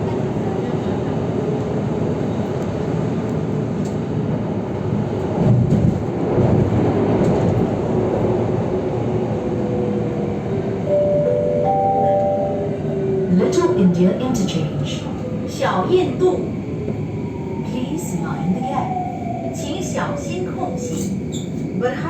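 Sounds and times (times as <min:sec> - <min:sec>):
metro train rumbling on track: 0:00.0 - 0:22.0.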